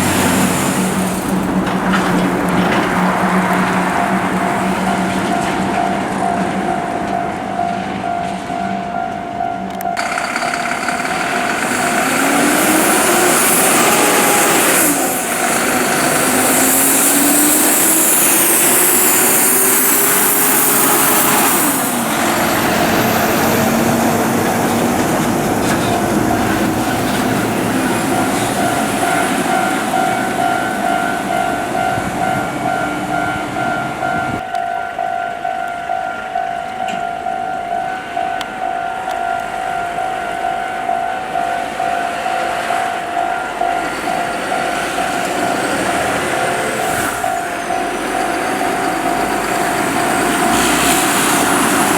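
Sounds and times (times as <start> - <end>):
diesel truck passing: 0.0 - 8.6, 9.8 - 51.9.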